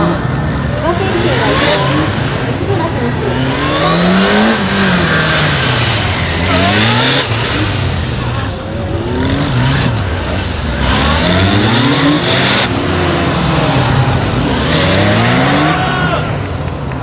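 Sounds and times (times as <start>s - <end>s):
motorcycle engine revving: 0.0s - 16.4s.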